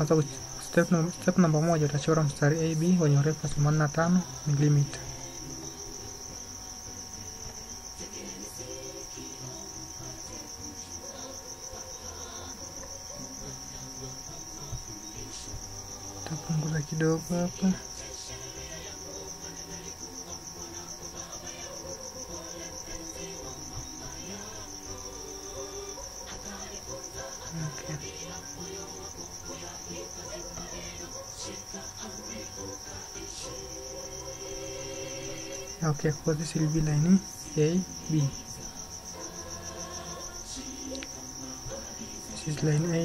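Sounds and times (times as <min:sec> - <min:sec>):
cricket trilling: 0:00.0 - 0:43.0.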